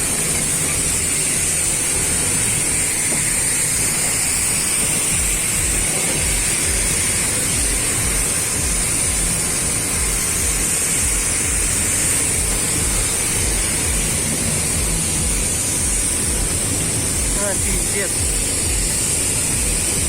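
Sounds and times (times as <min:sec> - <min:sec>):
high hiss: 0:00.0 - 0:20.0
low industrial rumble: 0:00.0 - 0:20.0.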